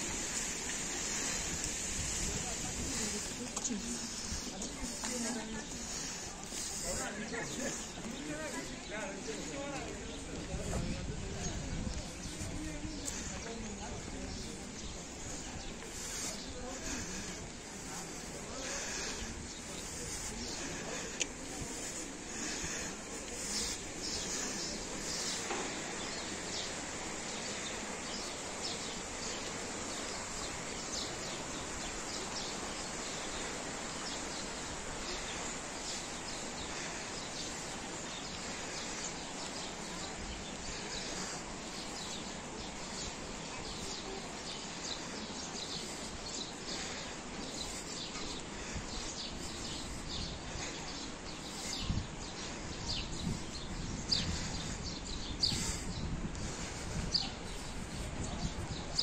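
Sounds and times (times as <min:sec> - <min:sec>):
background hush: 0:00.0 - 0:59.0
birds chirping: 0:00.0 - 0:59.0.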